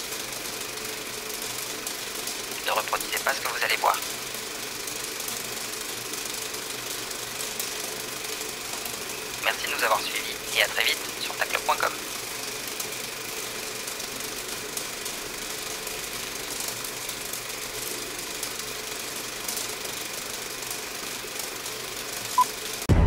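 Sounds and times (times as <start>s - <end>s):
steady static hiss: 0.0s - 20.4s
faint crackles and clicks: 0.1s - 22.8s.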